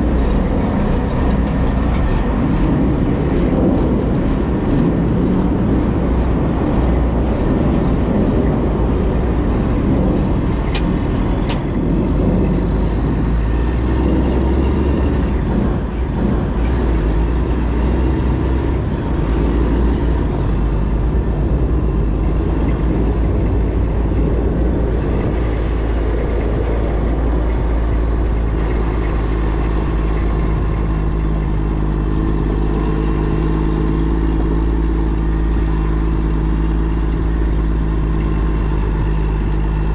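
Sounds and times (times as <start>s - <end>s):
diesel truck engine rumbling: 0.0s - 39.9s
road noise: 0.0s - 39.9s.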